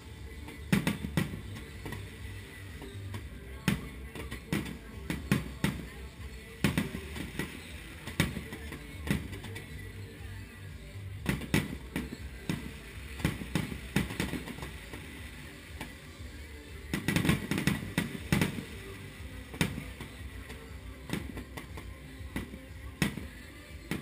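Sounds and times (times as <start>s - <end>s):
fireworks bursting: 0.7s - 9.8s, 11.2s - 24.0s.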